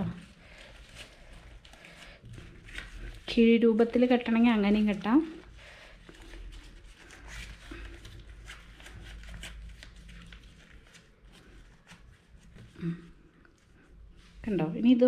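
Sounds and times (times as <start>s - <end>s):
banana leaf crinkling and rustling: 0.0s - 14.4s.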